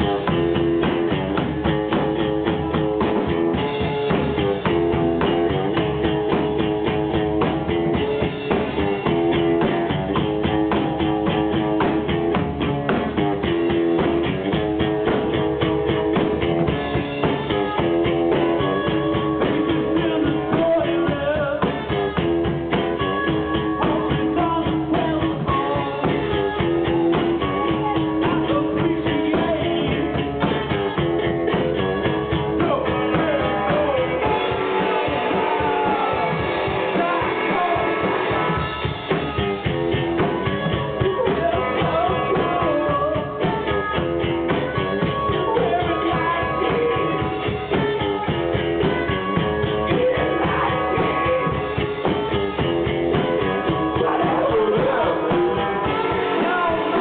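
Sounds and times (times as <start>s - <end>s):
bass: 0.0s - 57.0s
drum kit: 0.0s - 57.0s
electric guitar: 0.0s - 57.0s.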